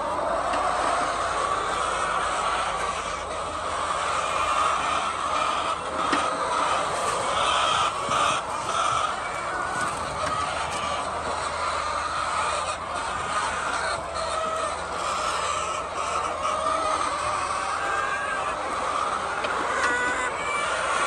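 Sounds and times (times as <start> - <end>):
flock of hens clucking: 0.0 - 21.0.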